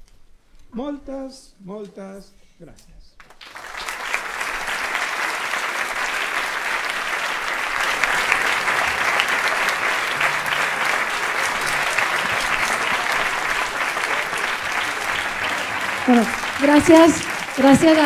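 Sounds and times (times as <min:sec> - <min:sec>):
audience applauding: 0:03.2 - 0:18.0.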